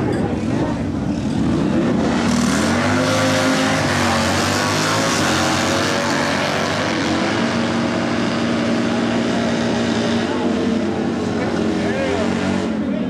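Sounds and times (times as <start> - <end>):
motorcycle engines racing: 0.0 - 13.0.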